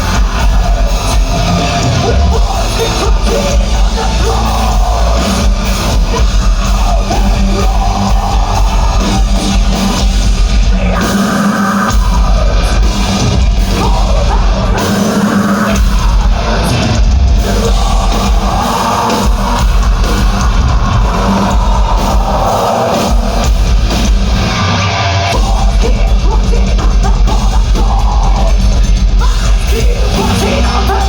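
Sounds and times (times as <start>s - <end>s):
person singing: 0.0s - 23.5s, 25.3s - 31.0s
heavy metal band playing live: 0.0s - 31.0s.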